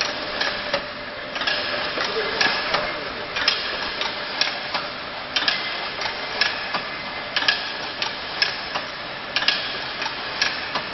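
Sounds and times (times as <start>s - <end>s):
sharp machine clacks: 1.4s - 6.8s, 7.4s - 10.9s.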